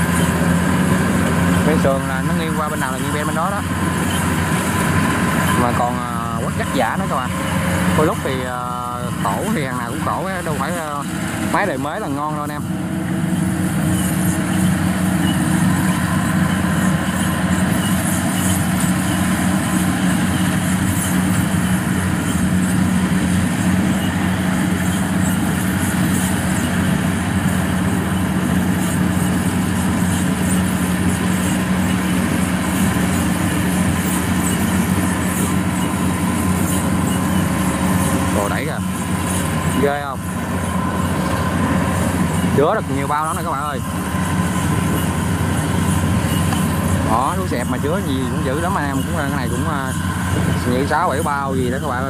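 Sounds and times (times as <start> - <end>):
combine harvester engine drone: 0.0 - 52.0.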